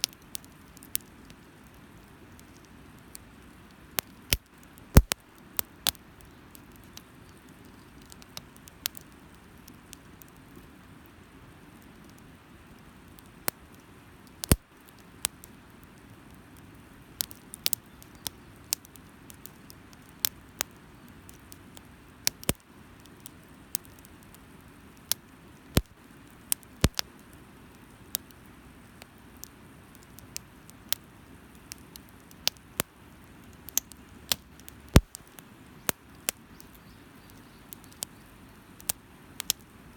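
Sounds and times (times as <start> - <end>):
wood fire crackling and popping: 0.0 - 39.8
low hiss: 0.0 - 39.9.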